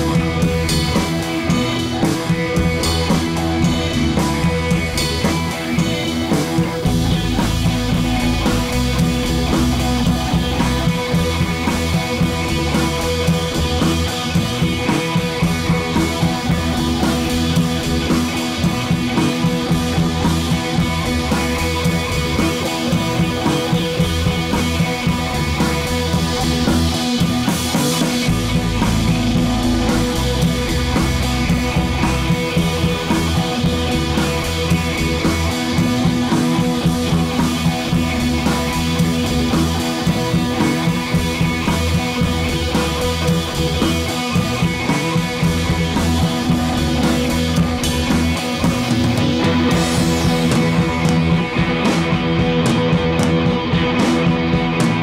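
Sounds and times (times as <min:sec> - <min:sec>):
rock music with guitar and drums: 0:00.0 - 0:55.0.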